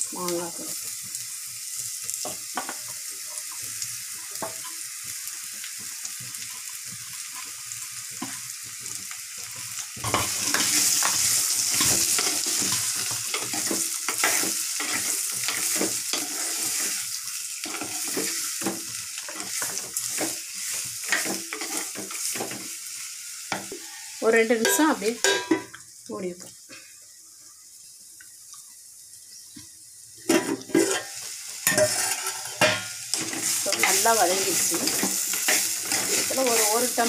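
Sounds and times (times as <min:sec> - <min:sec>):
food sizzling in hot oil: 0:00.0 - 0:37.0.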